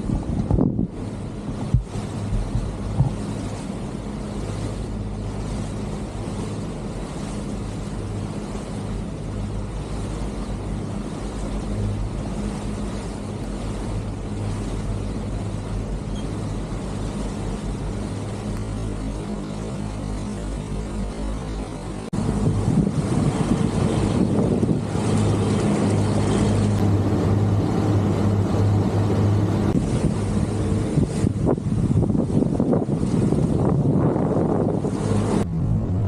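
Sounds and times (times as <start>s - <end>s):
boat engine humming: 0.0s - 36.0s
water rushing: 0.0s - 36.0s.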